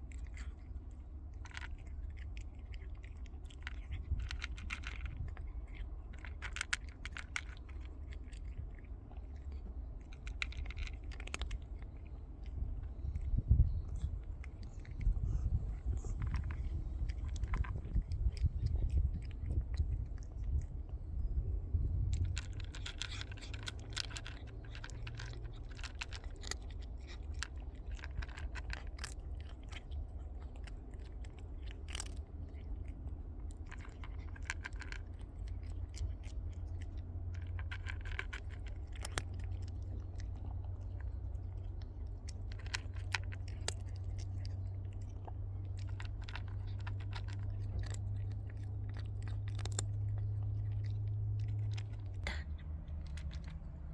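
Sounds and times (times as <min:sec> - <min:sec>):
cat chewing food: 0:00.0 - 0:53.9
steady low hum: 0:00.0 - 0:53.9.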